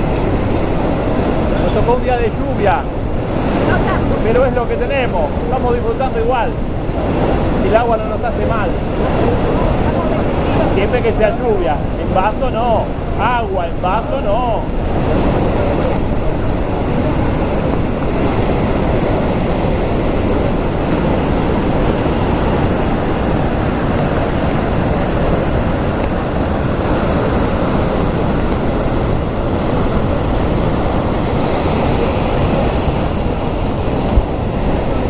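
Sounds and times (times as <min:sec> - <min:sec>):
waterfall roaring: 0:00.0 - 0:35.0.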